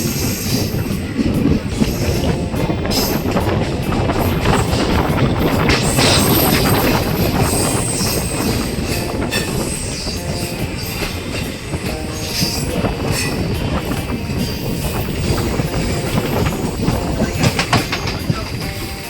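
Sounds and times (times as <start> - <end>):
track clatter: 0.0 - 19.0
train wheels rumbling on rails: 0.0 - 19.0
wheel squeal: 0.0 - 19.0.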